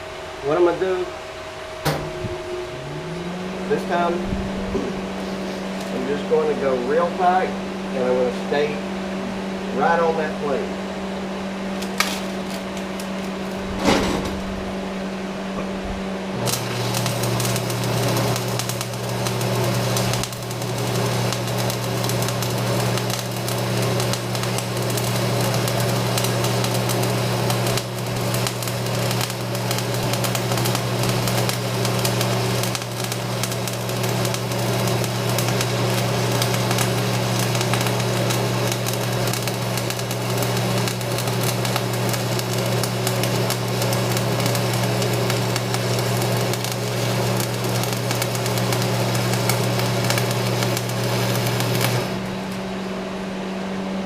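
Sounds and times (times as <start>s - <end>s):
welder buzz: 0.0s - 54.0s
welding arc crackling: 1.8s - 7.5s, 11.7s - 14.8s, 16.3s - 53.3s.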